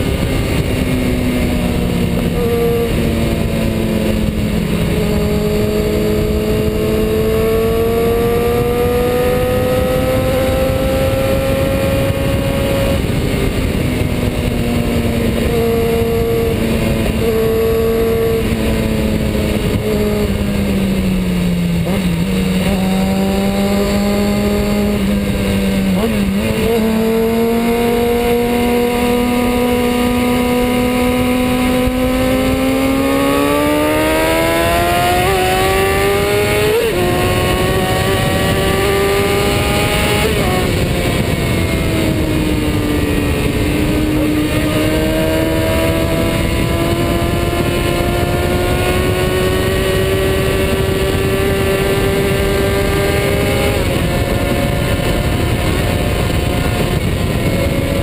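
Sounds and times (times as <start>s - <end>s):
heavy wind noise: 0.0s - 58.0s
motorcycle engine accelerating: 0.0s - 58.0s
road rumble: 0.0s - 58.0s.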